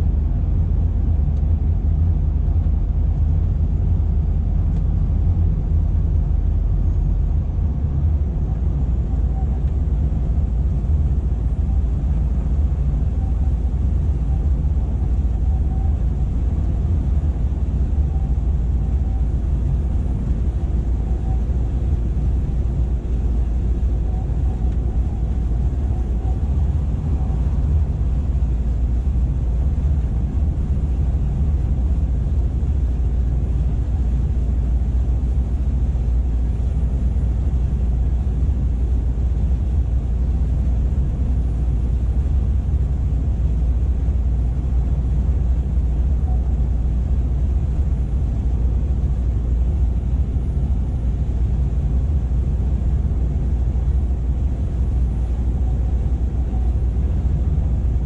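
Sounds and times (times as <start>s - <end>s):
truck diesel engine drone: 0.0s - 58.0s
tyre road noise: 0.0s - 58.0s.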